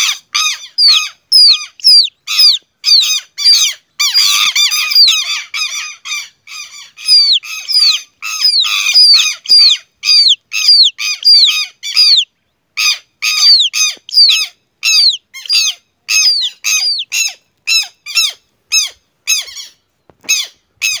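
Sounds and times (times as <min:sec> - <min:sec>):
lapwing alarm calls: 0:00.0 - 0:21.0.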